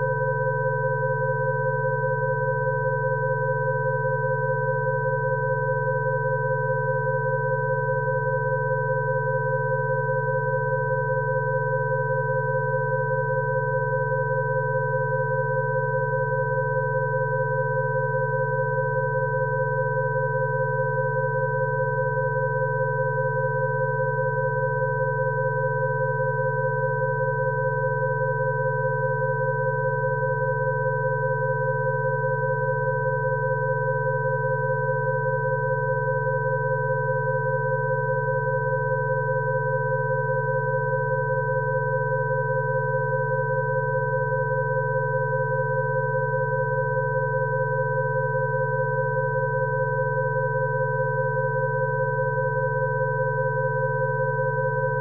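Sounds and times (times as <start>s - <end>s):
steady electronic sine tones: 0.0s - 55.0s.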